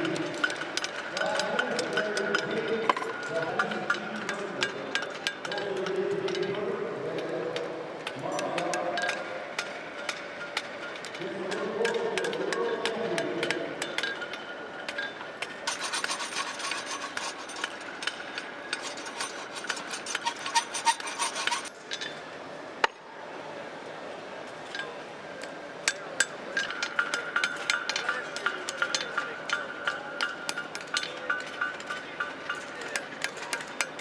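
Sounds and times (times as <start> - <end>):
hammers striking steel on anvils: 0.0 - 6.6, 7.2 - 21.7, 25.8 - 34.0.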